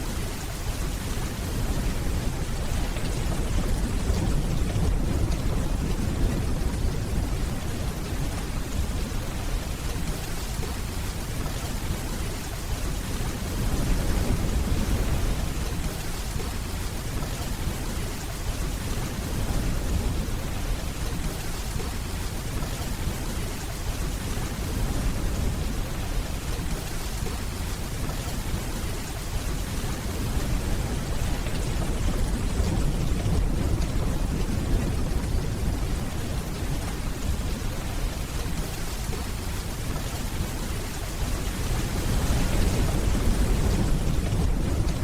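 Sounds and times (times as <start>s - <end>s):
steady rain hiss: 0.0s - 45.0s
distant rolling thunder: 0.2s - 45.0s.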